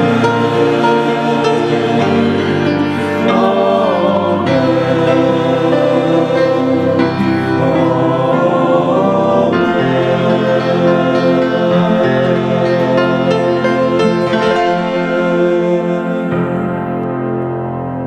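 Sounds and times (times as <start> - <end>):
choir singing a hymn: 0.0 - 18.0
instrumental accompaniment: 0.0 - 18.0.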